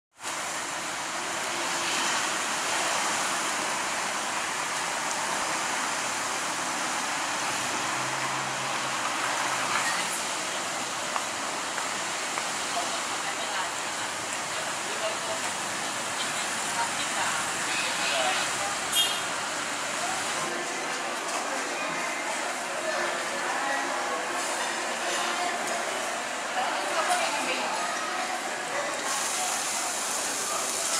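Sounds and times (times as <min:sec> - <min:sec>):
background noise wash: 0:00.2 - 0:30.9
road traffic hiss: 0:00.2 - 0:30.9.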